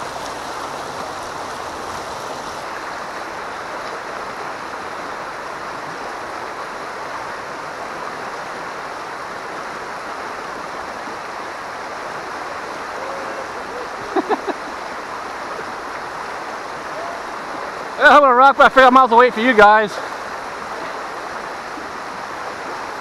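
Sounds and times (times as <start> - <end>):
river rushing over rocks: 0.0 - 23.0.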